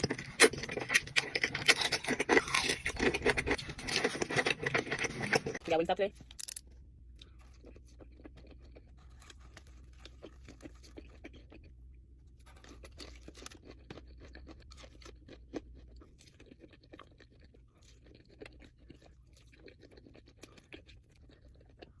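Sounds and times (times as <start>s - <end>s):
chewing and crunching chicken: 0.0s - 5.8s, 6.6s - 22.0s
faint low hum: 0.0s - 22.0s.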